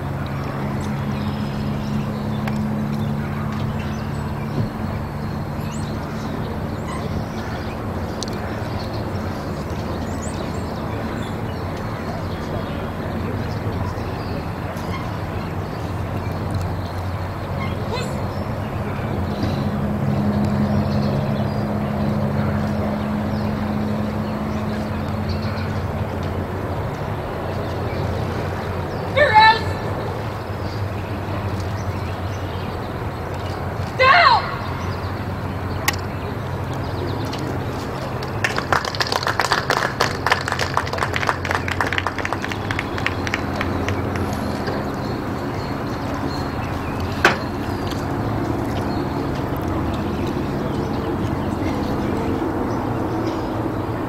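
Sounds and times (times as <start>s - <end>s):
low motor hum: 0.0s - 54.0s
outdoor background noise: 0.0s - 54.0s
wind: 0.0s - 54.0s.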